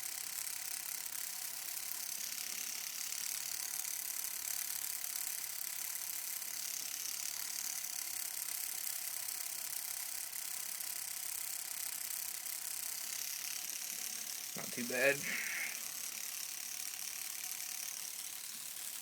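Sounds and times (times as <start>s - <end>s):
tattoo machine buzzing: 0.0s - 19.0s.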